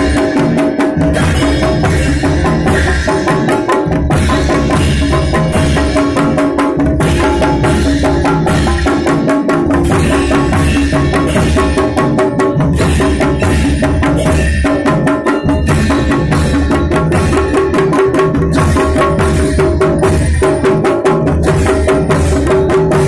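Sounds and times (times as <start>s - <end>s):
loud music with fast drums: 0.0s - 23.0s.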